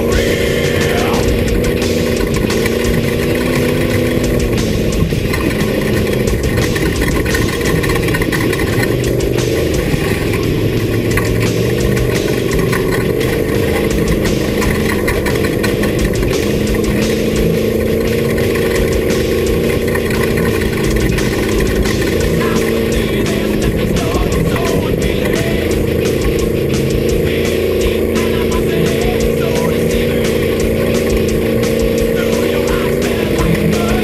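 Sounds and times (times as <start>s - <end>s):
race vehicle engine running: 0.0s - 34.0s.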